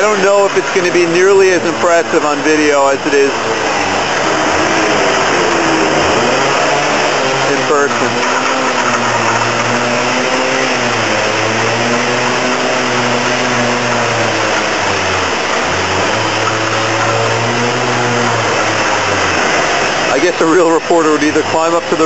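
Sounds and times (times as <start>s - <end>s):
fire engine pump drone: 0.0s - 22.0s
loud rushing noise: 0.0s - 22.0s.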